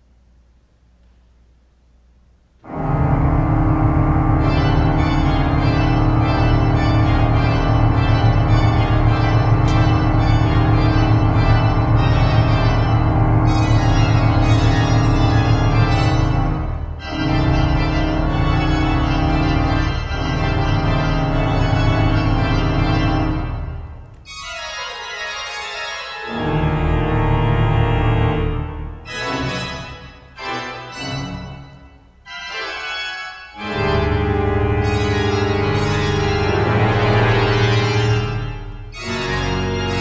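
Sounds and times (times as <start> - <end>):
pipe organ chords: 2.6 - 40.0.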